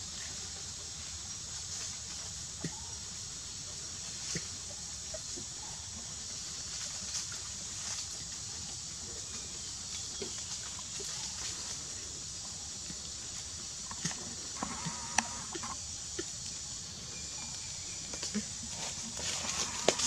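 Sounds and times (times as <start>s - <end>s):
high-pitched hiss: 0.0s - 20.0s.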